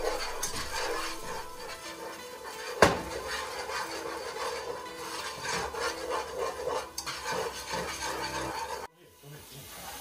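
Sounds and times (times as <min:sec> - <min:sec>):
whisk scraping a metal pot: 0:00.0 - 0:08.9.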